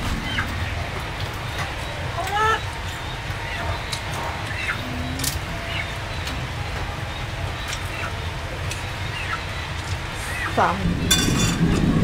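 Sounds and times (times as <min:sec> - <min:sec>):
low rumble: 0:00.0 - 0:12.0
small birds chirping: 0:00.2 - 0:11.2.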